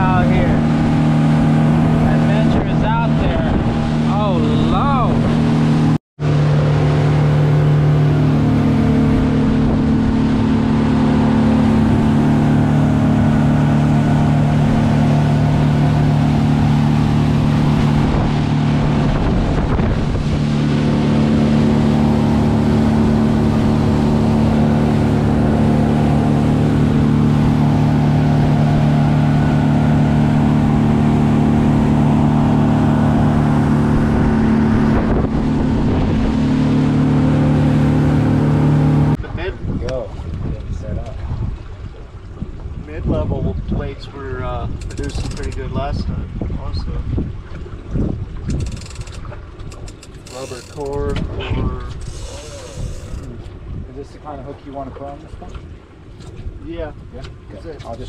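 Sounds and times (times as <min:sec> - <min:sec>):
boat engine droning: 0:00.0 - 0:58.0
water and wind noise: 0:00.0 - 0:58.0.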